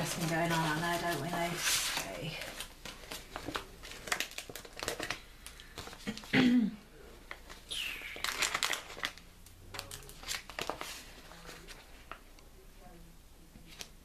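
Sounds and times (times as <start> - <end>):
paper crinkling and rustling: 0.0 - 6.3, 7.1 - 12.5, 13.6 - 14.0.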